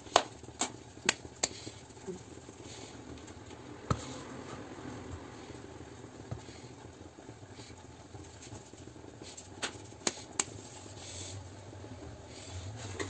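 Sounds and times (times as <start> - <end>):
hands rolling dough: 0.0 - 13.0.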